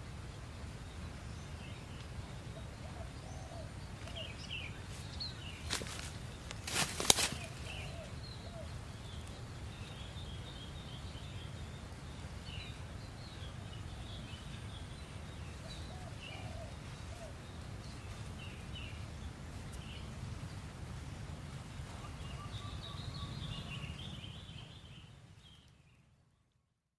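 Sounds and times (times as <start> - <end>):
low rumble of wind: 0.0 - 26.5
birds chirping: 0.4 - 26.2.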